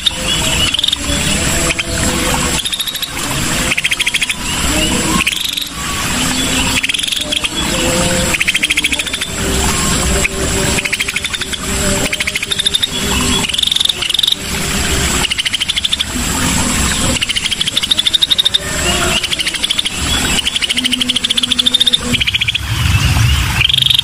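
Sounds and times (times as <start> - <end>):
bird song with fast high trills: 0.0 - 14.5, 15.1 - 24.0.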